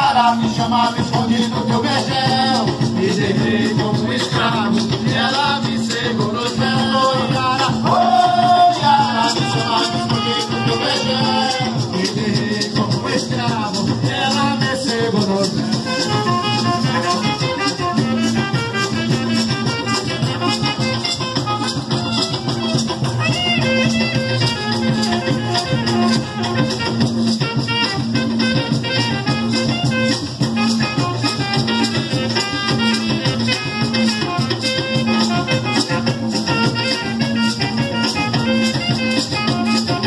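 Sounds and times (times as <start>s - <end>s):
hand drums: 0.0s - 40.0s
maracas shaking: 0.0s - 40.0s.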